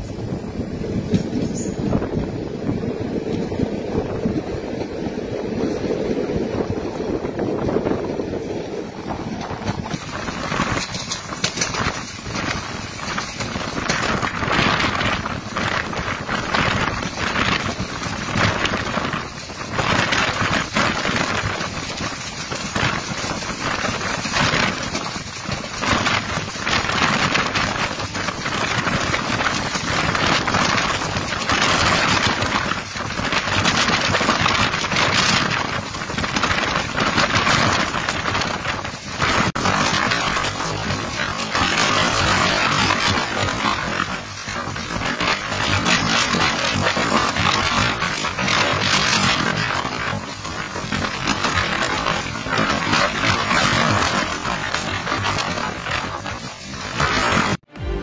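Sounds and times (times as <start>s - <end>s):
train running noise: 0.0s - 58.0s
wind blowing across microphone: 0.0s - 58.0s.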